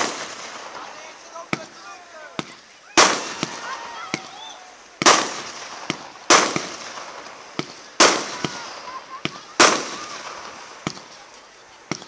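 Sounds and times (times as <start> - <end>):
firework shells bursting: 0.0 - 12.0
sharp pops: 0.0 - 12.0.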